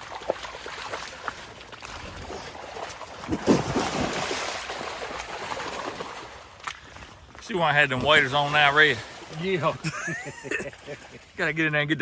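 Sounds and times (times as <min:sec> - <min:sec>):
wading through muddy water: 0:00.0 - 0:12.0.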